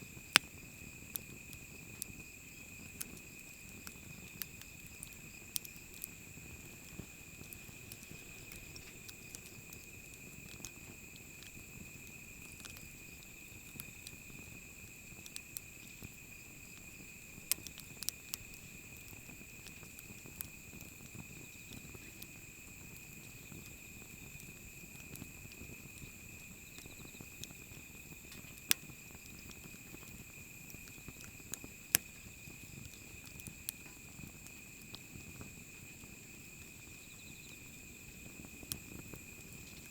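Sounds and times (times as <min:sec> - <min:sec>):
campfire crackles and pops: 0:00.0 - 0:39.9
campfire flame rumble: 0:00.0 - 0:39.9
insect trill: 0:00.0 - 0:39.9.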